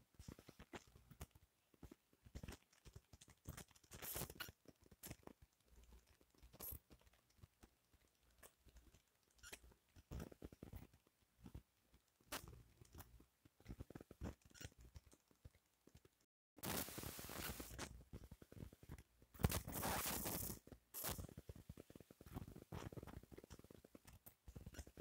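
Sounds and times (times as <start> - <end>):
faint clicks and rustles: 0.0 - 25.0.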